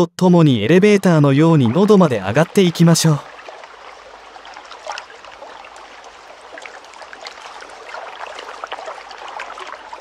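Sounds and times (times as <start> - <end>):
water lapping at shore: 1.0 - 10.0.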